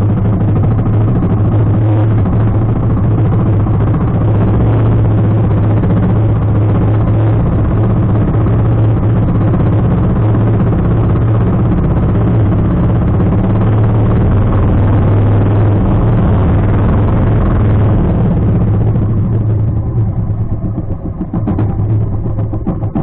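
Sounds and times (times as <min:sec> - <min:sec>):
boat engine running: 0:00.0 - 0:23.0
water noise: 0:00.0 - 0:23.0.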